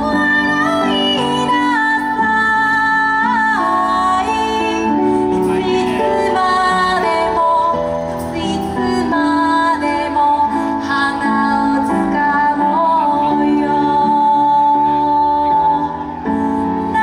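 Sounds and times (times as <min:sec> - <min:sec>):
woman singing slow song: 0:00.0 - 0:17.0.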